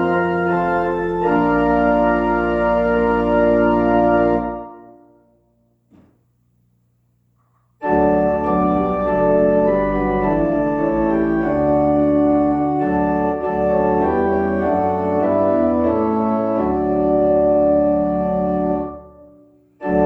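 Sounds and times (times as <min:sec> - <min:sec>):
organ playing sustained chords: 0:00.0 - 0:05.2, 0:07.8 - 0:19.2, 0:19.8 - 0:20.0.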